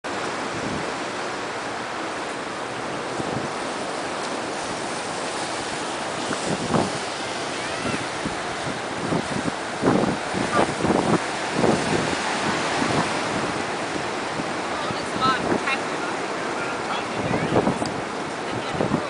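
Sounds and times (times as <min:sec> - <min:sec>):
ocean surf washing: 0:00.0 - 0:19.0
wind on microphone: 0:00.1 - 0:19.0.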